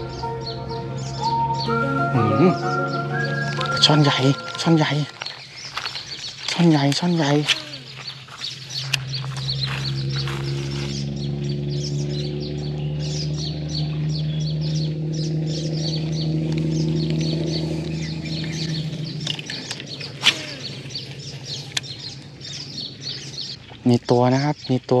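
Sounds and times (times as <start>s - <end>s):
steady low drone: 0.0s - 24.1s
small birds chirping: 0.0s - 25.0s.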